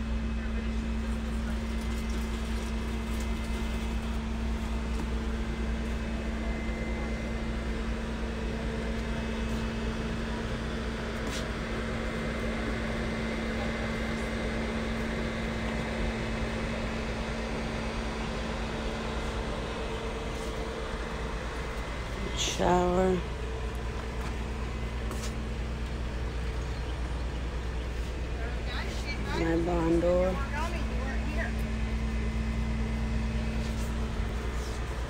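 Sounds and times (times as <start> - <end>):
machine humming: 0.0 - 35.0.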